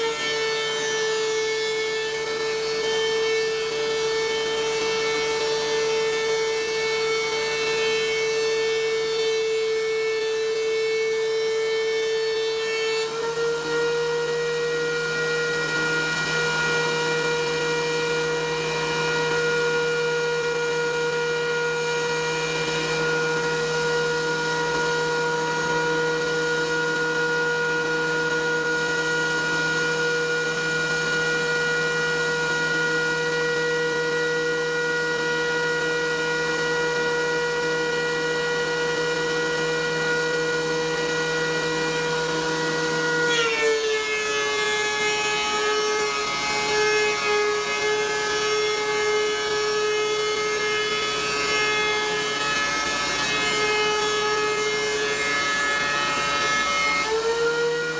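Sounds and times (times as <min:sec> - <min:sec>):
thickness planer motor whine: 0:00.0 - 0:57.9.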